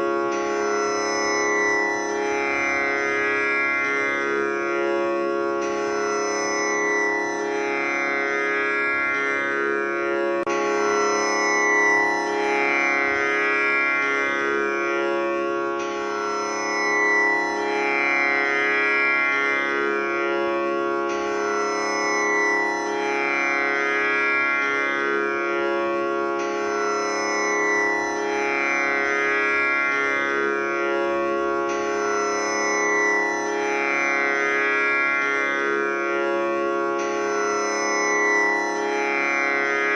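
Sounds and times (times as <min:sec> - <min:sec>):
tanpura drone: 0:00.0 - 0:39.9.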